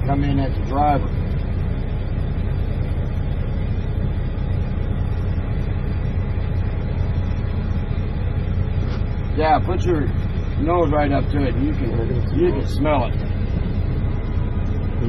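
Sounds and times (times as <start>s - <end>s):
cab fans blowing: 0.0s - 15.0s
diesel engine idling: 0.0s - 15.0s.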